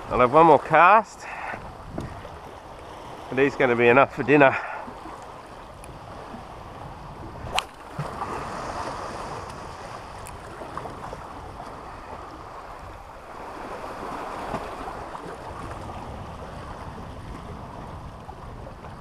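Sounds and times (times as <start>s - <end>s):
small waves lapping against rocks: 0.0s - 19.0s
wind buffeting microphone: 1.5s - 19.0s.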